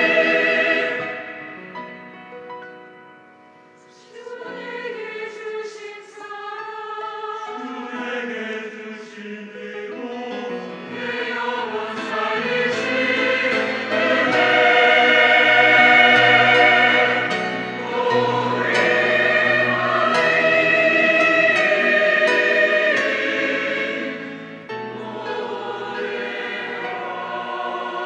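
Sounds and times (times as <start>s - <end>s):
church choir singing: 0.0s - 2.1s, 3.7s - 28.0s.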